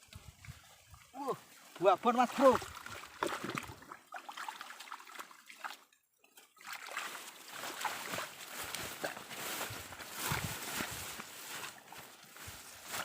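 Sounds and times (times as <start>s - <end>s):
stream water trickling and splashing: 0.0s - 13.0s.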